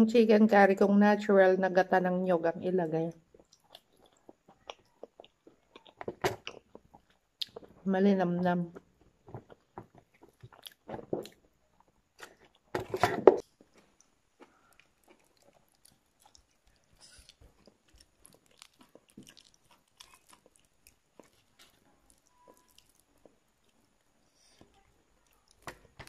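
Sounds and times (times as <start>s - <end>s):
person chewing food: 3.2s - 7.8s, 8.7s - 26.0s.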